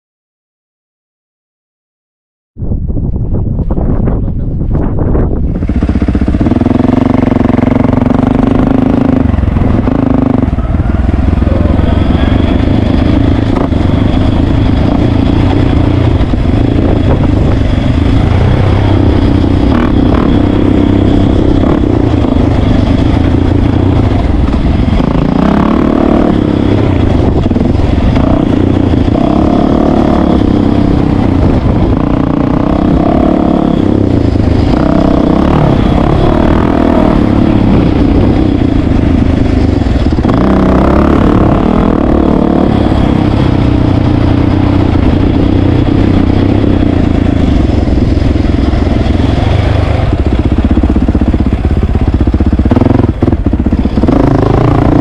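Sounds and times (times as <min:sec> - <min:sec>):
dirt bike engine revving: 0:05.2 - 0:55.0.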